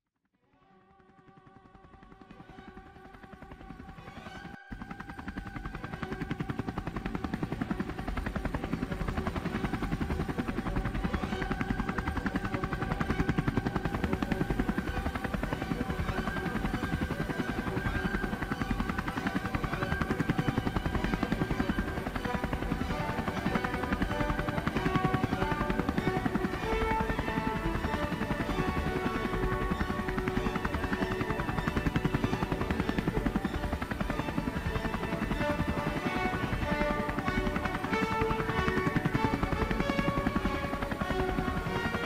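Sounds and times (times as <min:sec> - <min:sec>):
helicopter rotor chop: 0:01.1 - 0:42.0
engine drone: 0:01.9 - 0:42.0.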